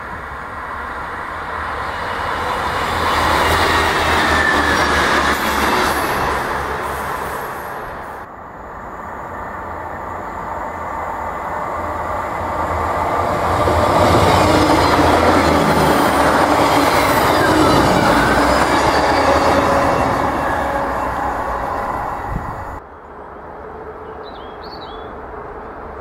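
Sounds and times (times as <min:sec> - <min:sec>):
diesel train passing: 0:00.0 - 0:26.0.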